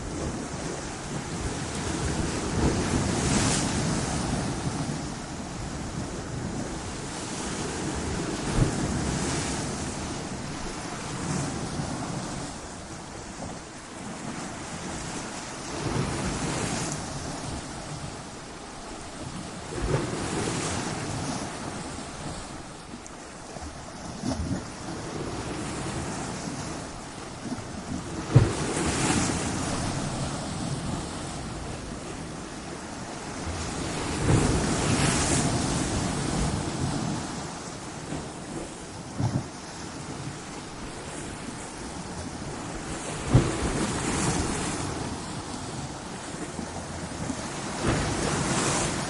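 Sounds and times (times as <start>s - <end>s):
waves breaking on rocks: 0.0s - 49.0s.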